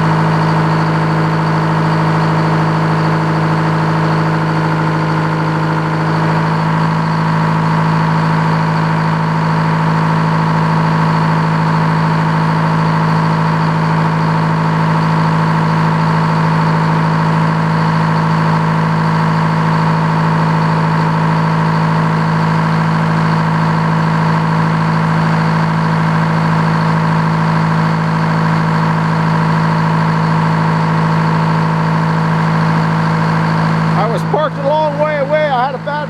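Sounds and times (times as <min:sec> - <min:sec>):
sawmill engine humming: 0:00.0 - 0:36.0.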